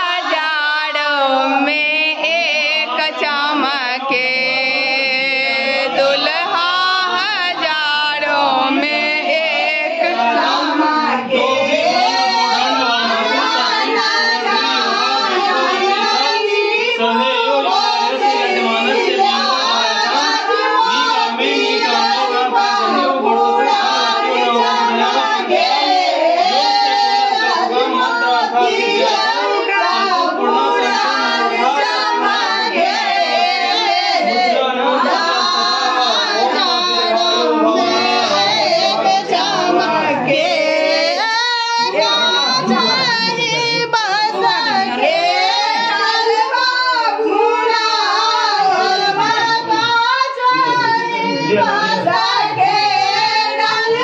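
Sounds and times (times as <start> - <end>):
women singing in unison: 0.0 - 54.0.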